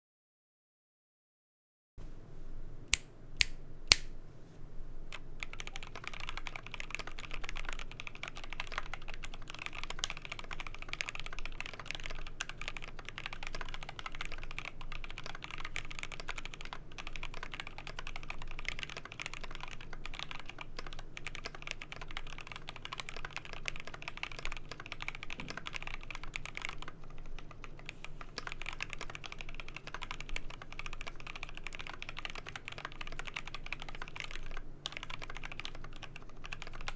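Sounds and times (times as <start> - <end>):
fast typing on keyboard: 5.1 - 36.9.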